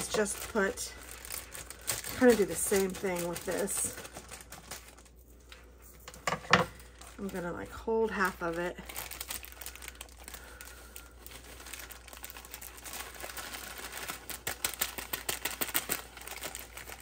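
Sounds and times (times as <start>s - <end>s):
packet crinkling and rustling: 0.0s - 17.0s.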